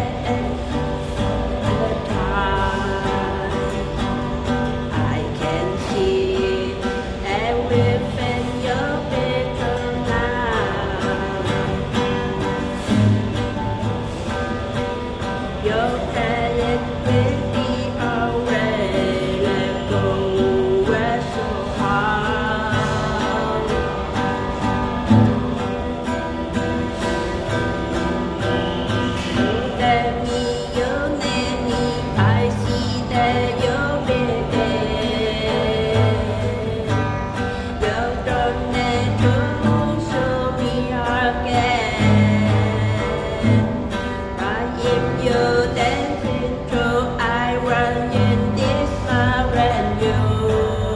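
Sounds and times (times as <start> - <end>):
acoustic guitar: 0.0 - 50.9
person singing: 0.0 - 50.9.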